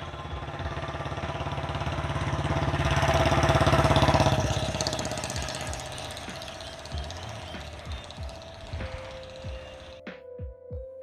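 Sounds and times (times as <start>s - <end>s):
engine pulsing: 0.0s - 10.0s.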